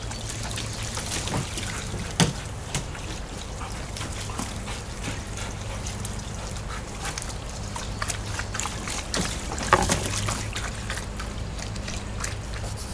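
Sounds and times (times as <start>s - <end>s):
water splashing in a pool: 0.0s - 12.9s.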